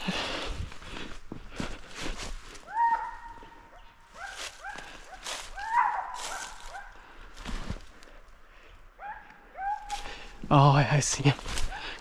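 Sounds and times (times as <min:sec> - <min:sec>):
footsteps on dry leaves: 0:00.0 - 0:03.5, 0:04.1 - 0:08.1, 0:09.8 - 0:12.0.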